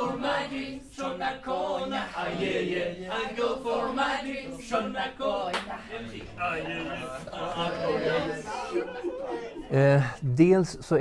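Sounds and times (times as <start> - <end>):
choir singing: 0.0 - 10.2.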